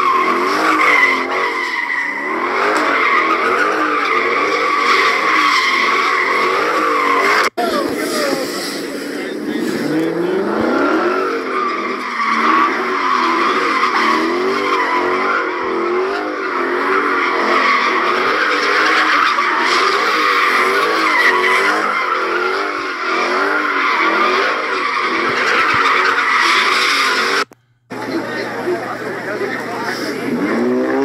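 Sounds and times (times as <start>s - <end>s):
car engine revving: 0.0s - 31.0s
tires screeching: 0.0s - 31.0s.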